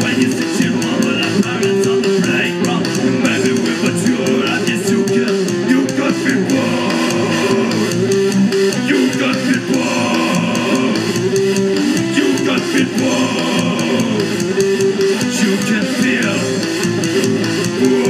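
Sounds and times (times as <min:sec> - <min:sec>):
live rock band playing: 0:00.0 - 0:18.0
person singing into a microphone: 0:00.0 - 0:18.0.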